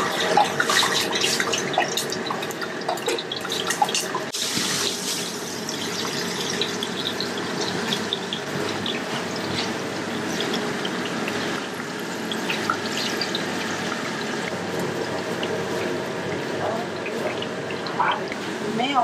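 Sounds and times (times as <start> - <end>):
food sizzling in hot oil: 0.0 - 16.2.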